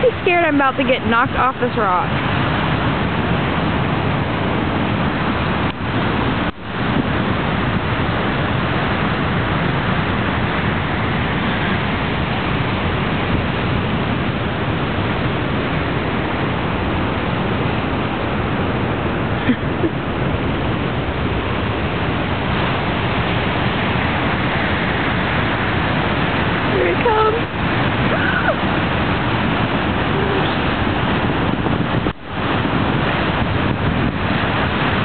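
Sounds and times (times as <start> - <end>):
surf breaking over rocks: 0.0 - 35.0.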